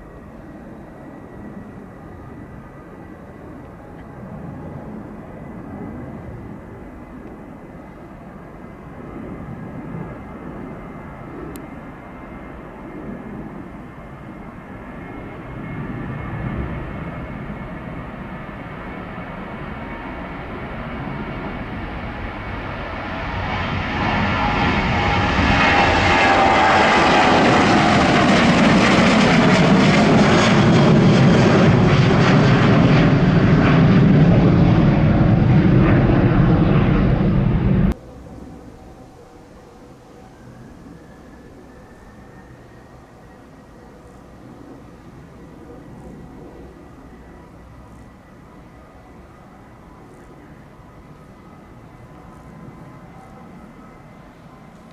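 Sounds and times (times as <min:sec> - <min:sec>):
jet engines rumbling on takeoff: 0:00.0 - 0:54.9.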